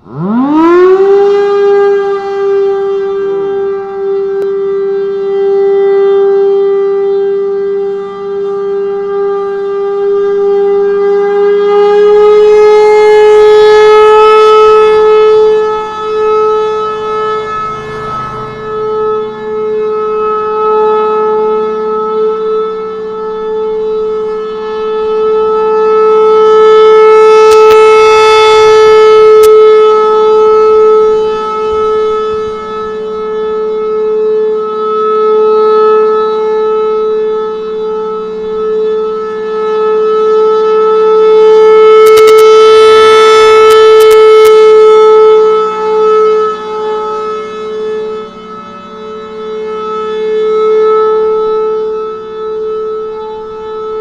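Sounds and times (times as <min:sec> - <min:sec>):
rotating siren alert tone: 0:00.0 - 0:54.0.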